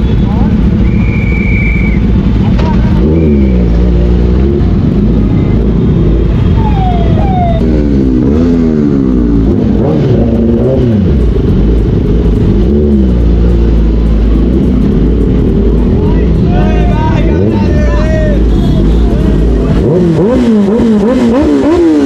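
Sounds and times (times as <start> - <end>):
motorcycle engine revving: 0.0 - 16.4, 17.2 - 22.0.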